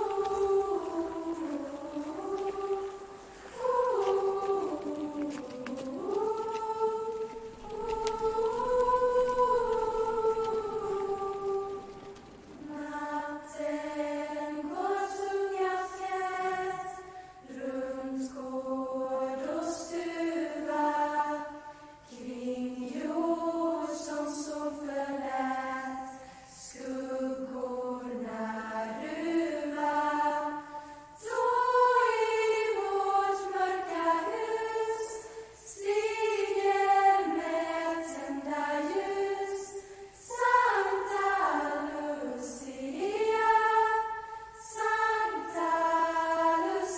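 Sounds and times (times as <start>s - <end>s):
choir singing slow song in unison: 0.0s - 46.9s.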